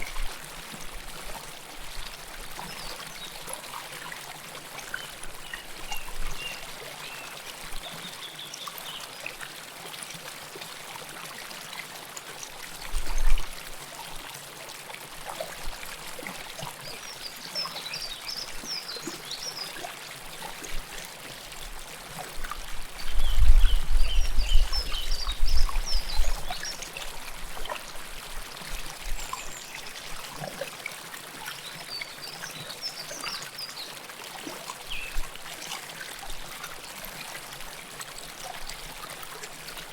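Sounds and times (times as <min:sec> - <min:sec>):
river water flowing: 0:00.0 - 0:23.2, 0:24.0 - 0:39.9.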